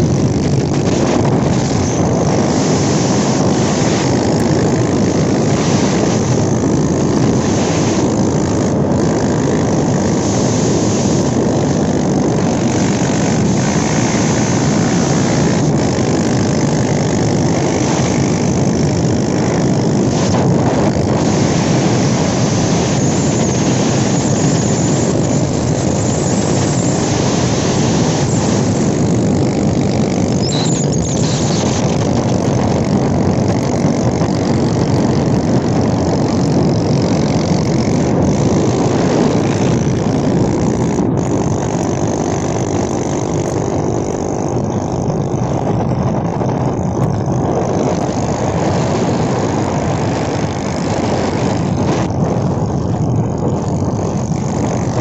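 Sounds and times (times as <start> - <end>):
motorcycle engines running: 0.0 - 55.0
wind rushing over microphone: 0.0 - 55.0.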